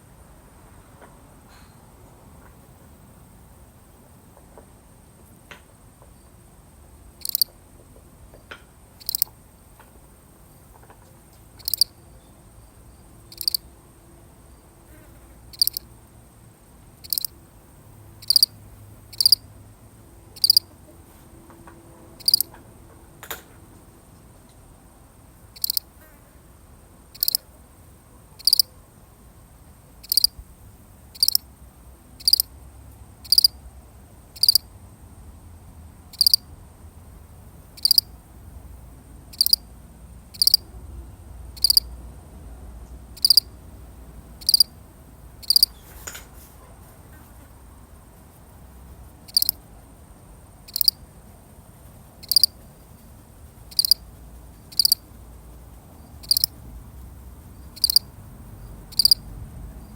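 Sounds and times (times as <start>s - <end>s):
cricket chirping: 0.0s - 20.9s, 22.2s - 22.6s, 23.2s - 42.1s, 42.8s - 46.2s, 47.9s - 59.9s.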